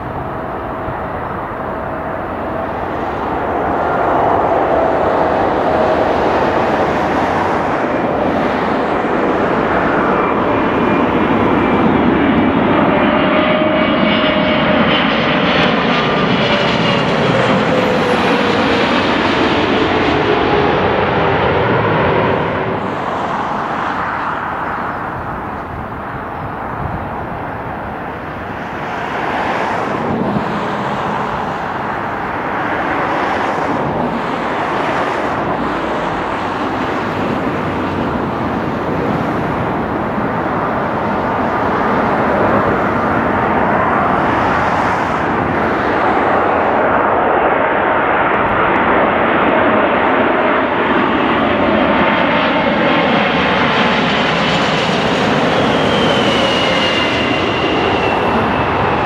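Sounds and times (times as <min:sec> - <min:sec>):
jet airliner passing overhead: 0:00.0 - 0:59.0
jet engine high whine: 0:00.0 - 0:59.0.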